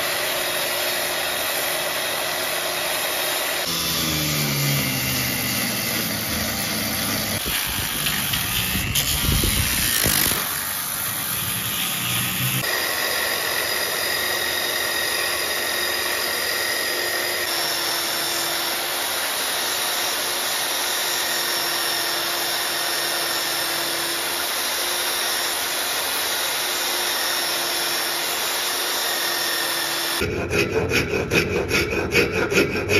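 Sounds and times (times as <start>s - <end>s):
power tool whining and grinding: 0.0s - 32.9s.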